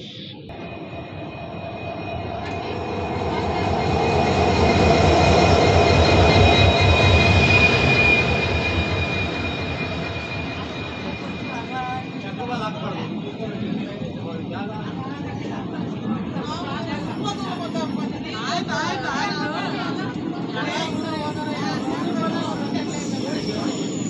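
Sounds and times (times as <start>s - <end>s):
high whine: 0.0s - 24.0s
train passing with rumble: 0.0s - 24.0s.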